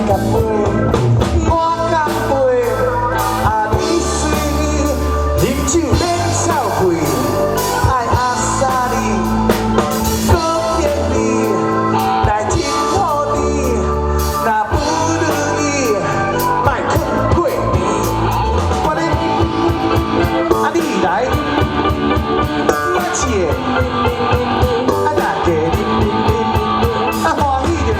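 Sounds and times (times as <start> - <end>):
rock band playing with singer: 0.0 - 27.9.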